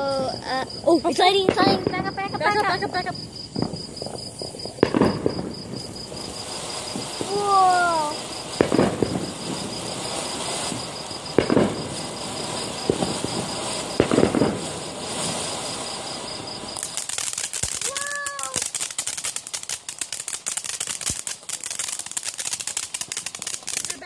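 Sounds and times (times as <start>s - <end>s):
firework fountain hissing: 0.0s - 24.0s
firework sparks crackling: 0.0s - 24.0s
firework thumps: 0.0s - 24.0s.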